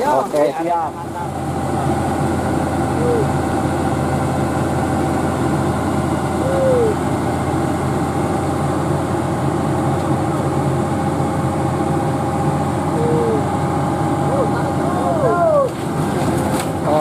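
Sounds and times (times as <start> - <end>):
excavator diesel engine running: 0.0 - 17.0
steady whine: 0.0 - 17.0.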